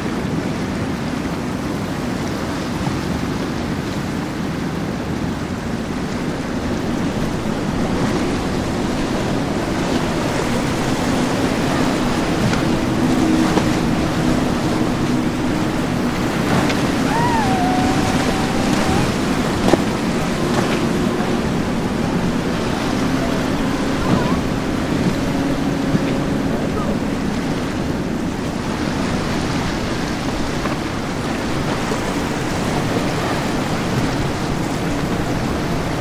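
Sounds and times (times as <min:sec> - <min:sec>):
boat engines humming: 0:00.0 - 0:36.0
rushing water and waves: 0:00.0 - 0:36.0
wind buffeting microphone: 0:00.0 - 0:36.0.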